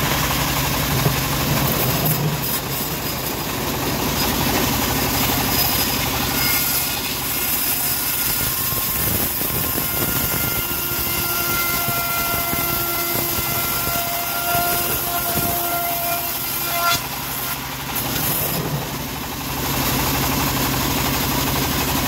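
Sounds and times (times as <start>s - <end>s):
bandsaw mill running: 0.0s - 22.0s.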